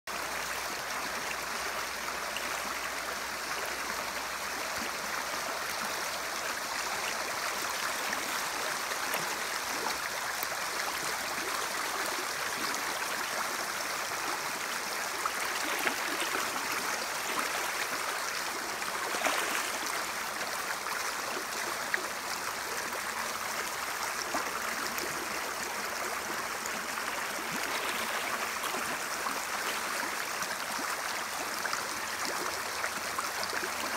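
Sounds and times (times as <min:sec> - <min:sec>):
creek running over gravel: 0:00.1 - 0:33.9.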